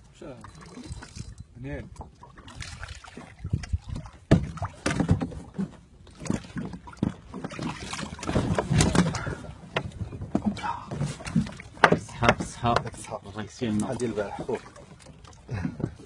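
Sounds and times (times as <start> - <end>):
knocks and bumps in boat: 1.8 - 16.0.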